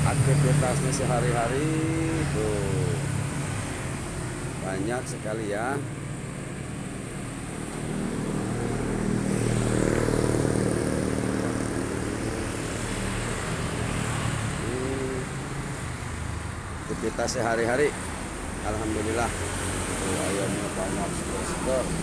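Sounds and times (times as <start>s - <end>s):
vehicle engine passing: 0.0s - 22.0s.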